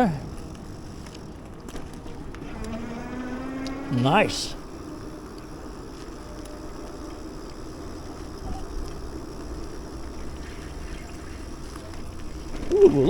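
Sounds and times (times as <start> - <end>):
bicycle road noise: 0.0 - 13.0.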